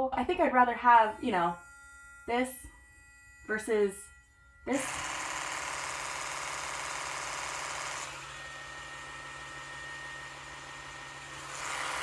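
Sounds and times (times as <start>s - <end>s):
sonic toothbrush hum and whine: 0.0s - 12.0s
electric toothbrush loud buzz: 0.5s - 12.0s.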